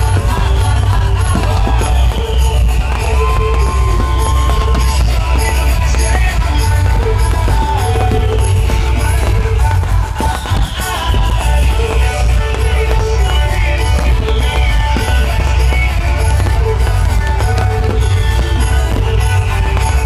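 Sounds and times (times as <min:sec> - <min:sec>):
loud rock music: 0:00.0 - 0:20.0.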